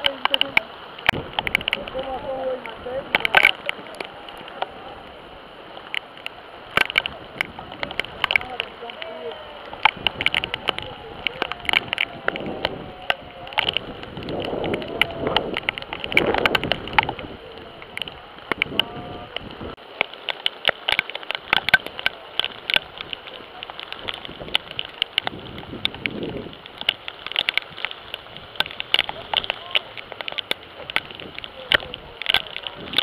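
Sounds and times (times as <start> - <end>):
heavy rain: 0.0 - 33.0
raindrops ticking on microphone: 0.0 - 33.0.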